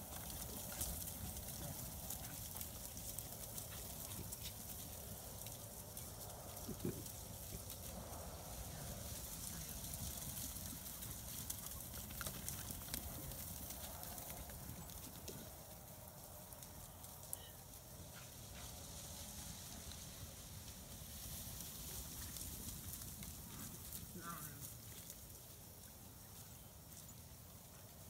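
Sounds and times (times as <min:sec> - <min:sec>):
sheep hooves on grass: 0:00.0 - 0:28.0.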